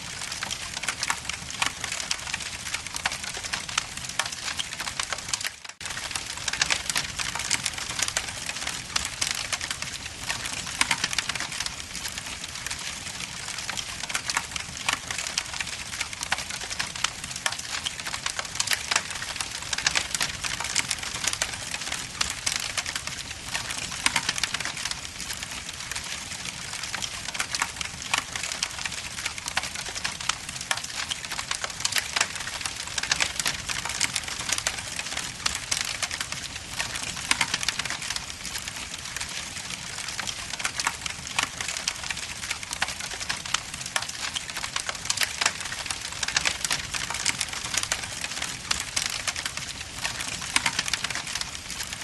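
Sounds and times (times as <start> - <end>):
wood logs crackling in fireplace: 0.0 - 52.0.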